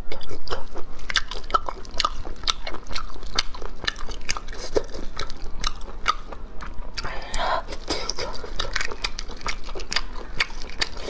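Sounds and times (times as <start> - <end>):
chewing: 0.0 - 11.0.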